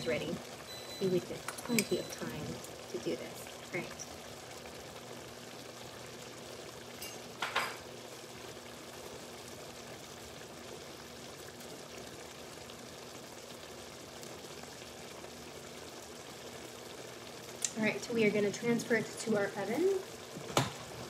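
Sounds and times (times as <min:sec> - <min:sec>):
food simmering in broth: 0:00.0 - 0:21.0.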